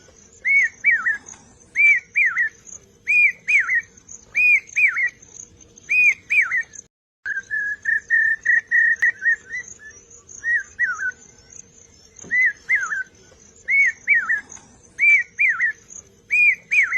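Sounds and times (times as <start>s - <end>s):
bird singing whistled notes: 0.1s - 16.9s.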